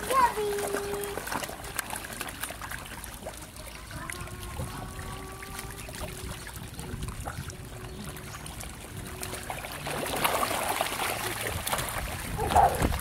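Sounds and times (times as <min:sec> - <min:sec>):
fish splashing in water: 0:00.0 - 0:13.0.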